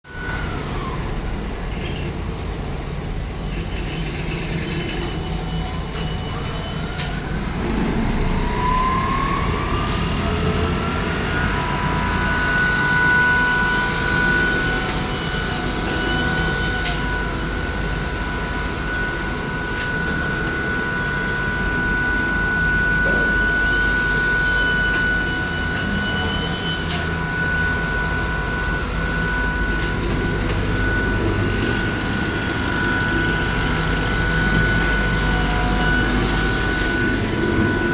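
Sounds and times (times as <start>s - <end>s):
low machine hum: 0.1s - 37.9s
sewing machine motor whine: 4.0s - 37.9s.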